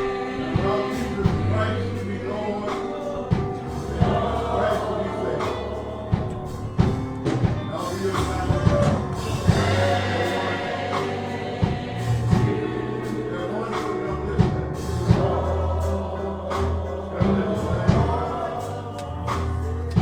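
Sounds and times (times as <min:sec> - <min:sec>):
choir and congregation singing: 0:00.0 - 0:20.0
drum hits: 0:00.0 - 0:20.0
instrumental accompaniment: 0:00.0 - 0:20.0.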